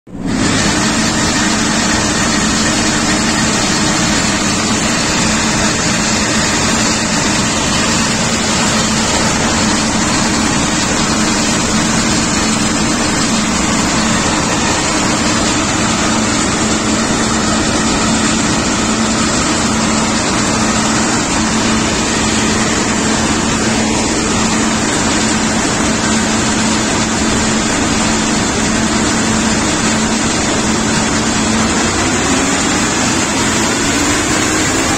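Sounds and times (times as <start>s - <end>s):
combine harvester running: 0.1s - 34.9s.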